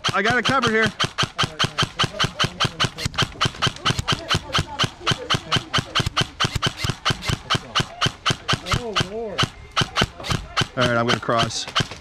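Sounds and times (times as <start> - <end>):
airsoft gun firing full auto: 0.0 - 12.0.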